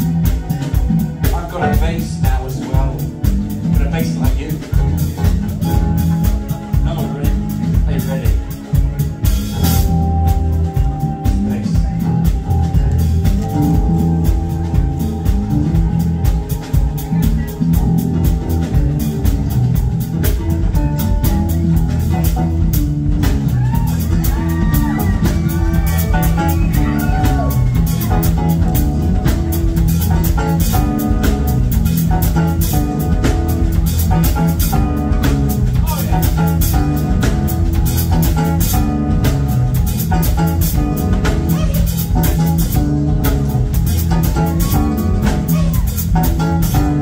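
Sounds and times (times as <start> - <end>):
sliding melody line: 0.0 - 47.0
smooth jazz band playing: 0.0 - 47.0.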